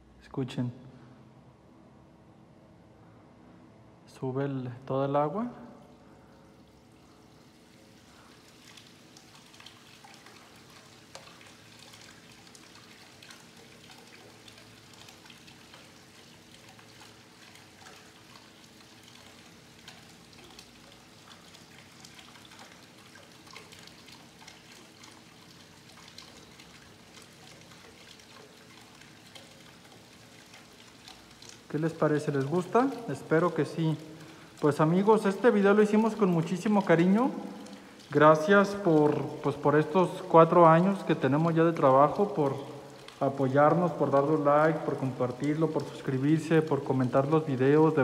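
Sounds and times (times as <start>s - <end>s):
steady hum: 0.0s - 47.9s
water trickling and spattering: 4.8s - 48.0s.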